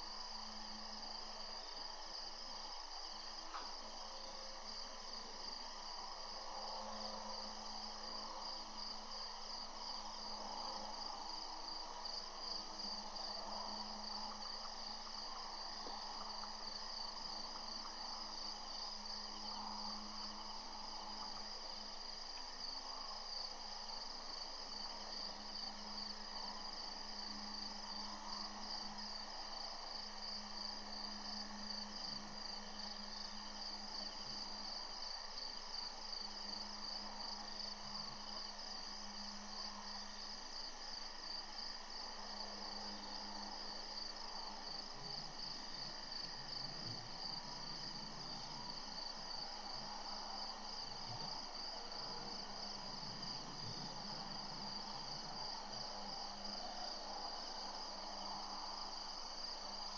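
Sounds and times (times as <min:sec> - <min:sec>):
crickets trilling: 0:00.0 - 0:59.9
faint low hum: 0:00.0 - 0:59.9.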